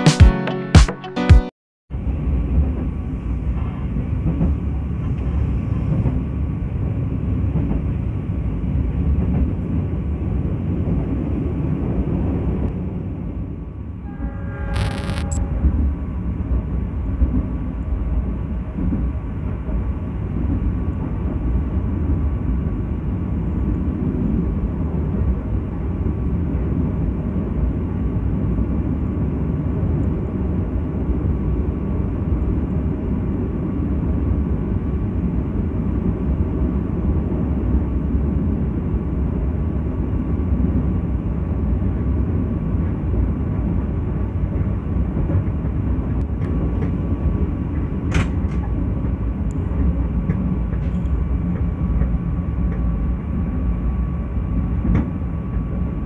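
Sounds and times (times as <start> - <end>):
train wheels running on rails: 2.0 - 12.8, 15.6 - 56.0.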